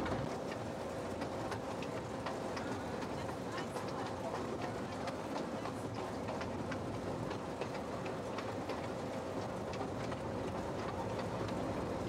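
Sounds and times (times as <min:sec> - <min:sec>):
miniature train rumbling: 0:00.0 - 0:12.0
wheels clicking over rail joints: 0:00.0 - 0:12.0.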